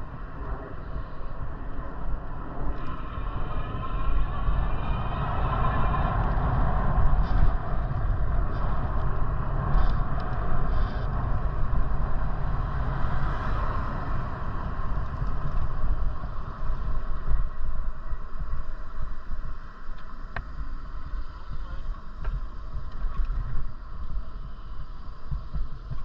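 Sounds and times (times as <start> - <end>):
road noise: 0.0 - 26.0
wind rumble on microphone: 0.0 - 26.0.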